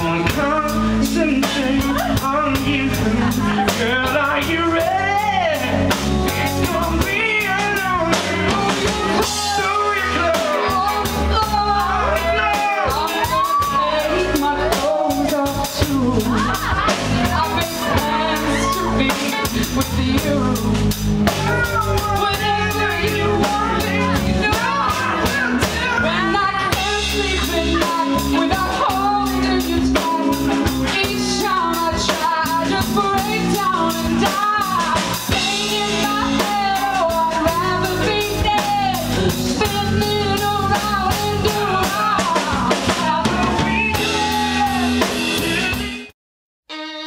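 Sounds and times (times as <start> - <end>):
woman singing: 0.0 - 45.0
electric guitar: 0.0 - 46.1
drum kit: 0.0 - 47.0.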